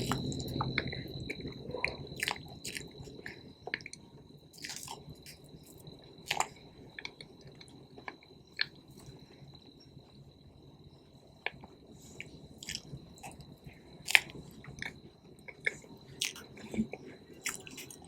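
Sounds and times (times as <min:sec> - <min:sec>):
chewing cake: 0:00.0 - 0:09.6, 0:11.3 - 0:18.0.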